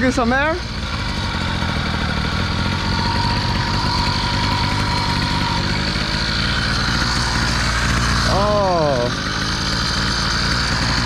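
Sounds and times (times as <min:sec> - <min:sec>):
small motorbike engine idling: 0:00.0 - 0:11.0.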